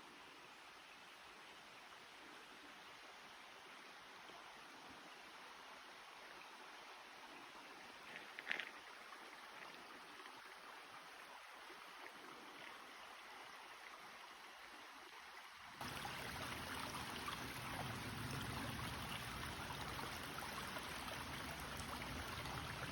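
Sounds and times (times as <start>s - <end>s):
stream rushing water: 0.2s - 22.9s.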